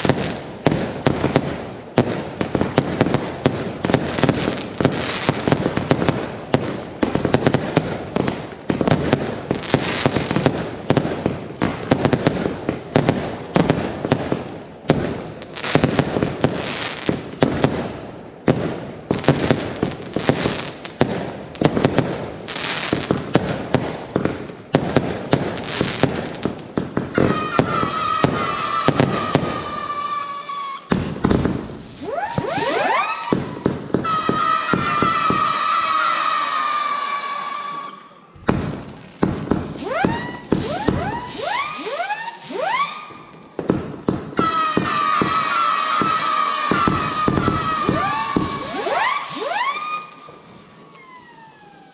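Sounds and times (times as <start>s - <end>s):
fireworks bangs and crackling: 0.0s - 51.9s
fireworks whistling: 0.0s - 51.9s.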